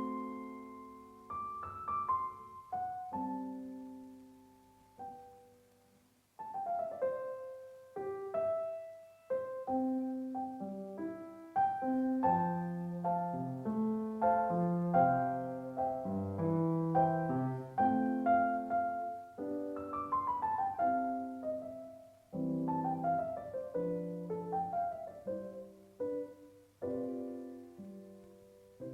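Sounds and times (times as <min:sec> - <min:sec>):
solo piano music: 0:00.0 - 0:28.9.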